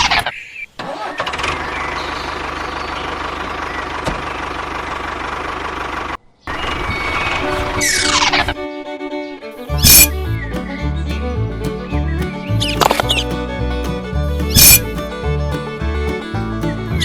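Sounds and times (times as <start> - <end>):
engine starting and chugging: 0.8 - 8.1, 9.7 - 17.0.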